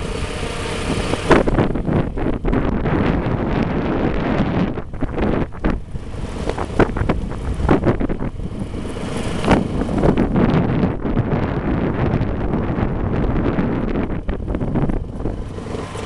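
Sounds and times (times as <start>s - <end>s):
vehicle driving on gravel: 0.0s - 16.0s
wind buffeting microphone: 0.0s - 16.0s.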